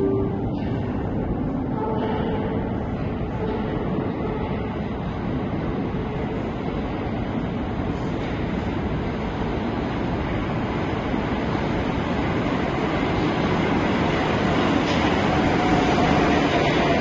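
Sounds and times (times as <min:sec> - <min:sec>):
metro train rumble: 0:00.0 - 0:17.0.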